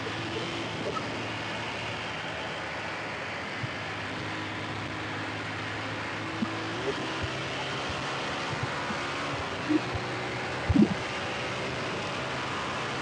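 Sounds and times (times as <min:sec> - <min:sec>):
motorcycle engine hum: 0:00.0 - 0:13.0.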